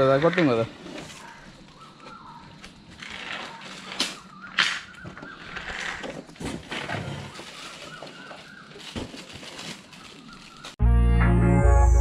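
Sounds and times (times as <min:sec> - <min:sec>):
rustling of packaging: 0:00.0 - 0:10.8.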